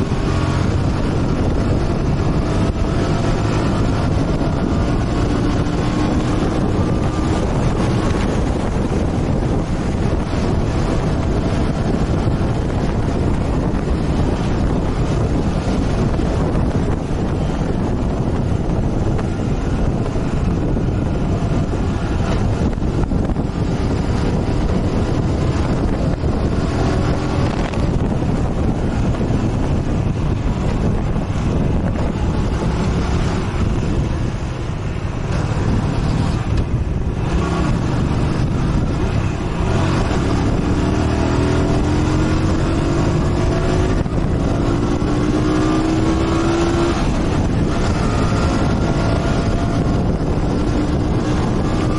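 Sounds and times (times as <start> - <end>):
motorcycle engine running: 0.0 - 51.9
wind rushing over microphone: 0.0 - 51.9.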